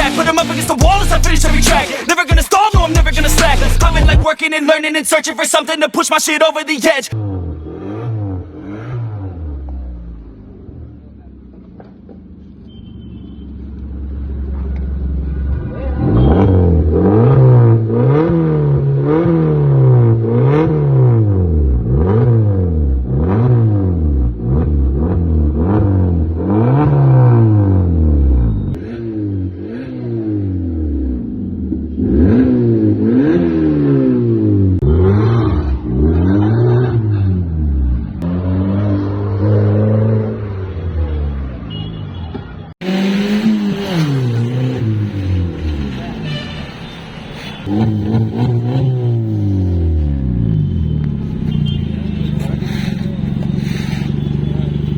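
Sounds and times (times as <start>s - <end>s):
car engine revving: 0.0s - 4.3s, 7.1s - 41.8s, 42.7s - 54.9s.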